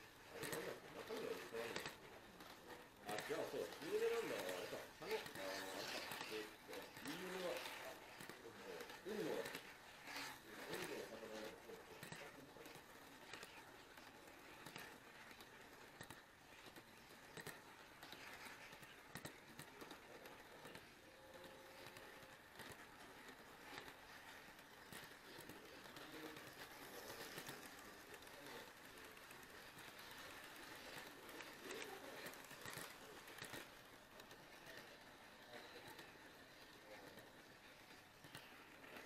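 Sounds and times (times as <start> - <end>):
model train rolling on track: 0.0 - 39.0
small irregular clicks: 0.0 - 39.0.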